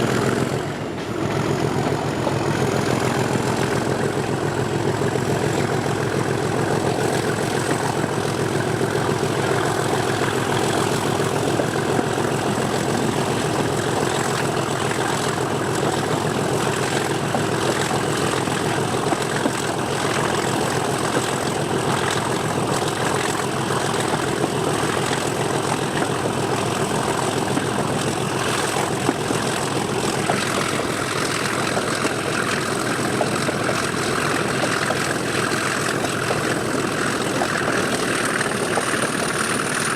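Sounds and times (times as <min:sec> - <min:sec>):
locomotive diesel engine running: 0:00.0 - 0:39.9.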